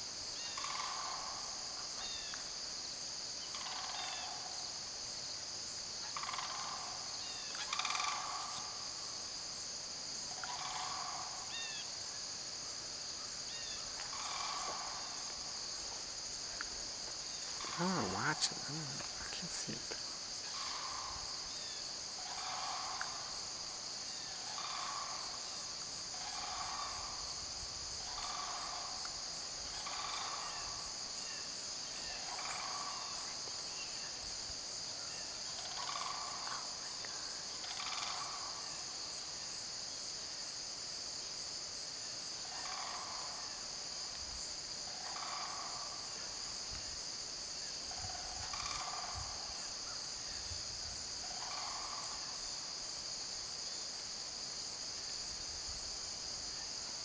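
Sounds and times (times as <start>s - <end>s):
insect chorus: 0.0s - 57.0s.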